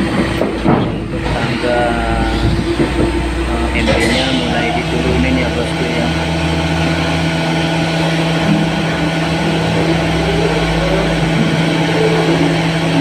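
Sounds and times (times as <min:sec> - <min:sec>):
large diesel engine humming: 0:00.0 - 0:13.0.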